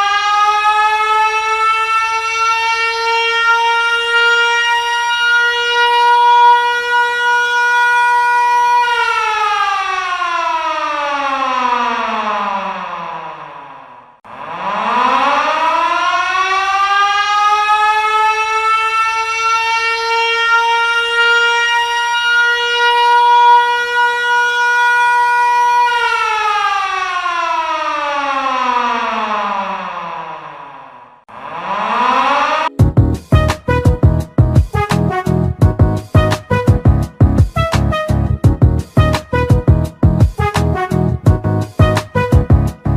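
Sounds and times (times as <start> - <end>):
siren winding down: 0.0 - 42.9.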